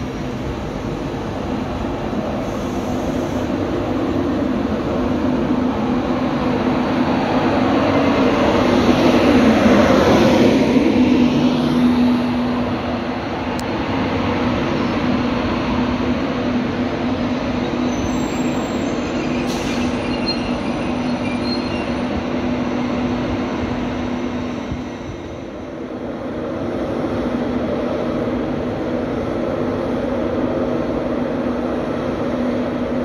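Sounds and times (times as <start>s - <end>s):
electric locomotive hum: 0.0s - 33.0s
train wheels rumbling on rails: 0.0s - 33.0s.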